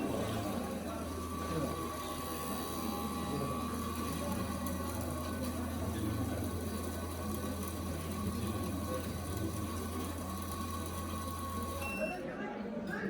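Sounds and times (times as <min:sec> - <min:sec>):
amalgamator mechanical hum: 0:00.0 - 0:12.2.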